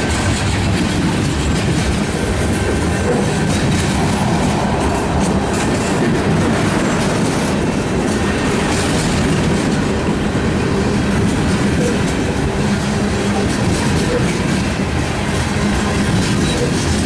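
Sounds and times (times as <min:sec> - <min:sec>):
steel train wheels on rails: 0:00.0 - 0:17.0.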